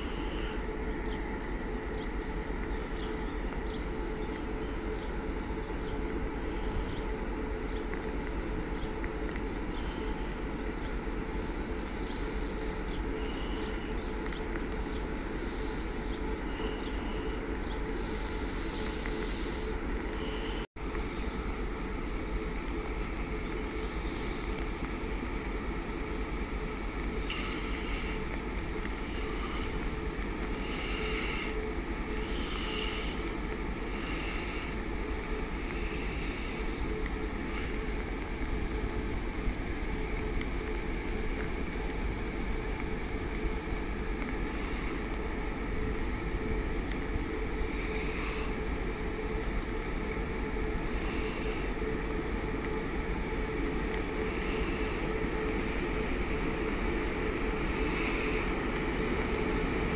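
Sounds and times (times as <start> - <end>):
constant electric hum: 0.0 - 59.9
freight train rumbling: 0.0 - 59.9.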